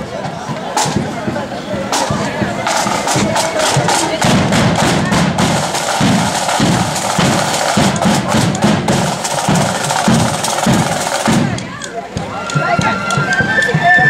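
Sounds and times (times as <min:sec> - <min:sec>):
bass drum beats: 0:00.0 - 0:14.0
snare drum strikes: 0:00.8 - 0:13.8.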